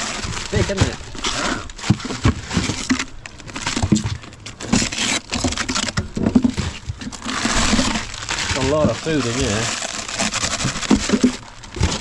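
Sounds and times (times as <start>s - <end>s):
frozen packs knocking and clattering: 0.0s - 12.0s
plastic bags crinkling: 0.0s - 12.0s.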